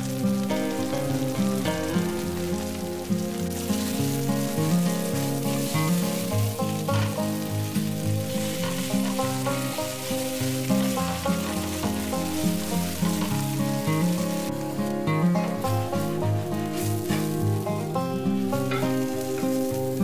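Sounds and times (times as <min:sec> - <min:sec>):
background music: 0:00.0 - 0:20.0
batter sizzling in oil: 0:00.0 - 0:20.0.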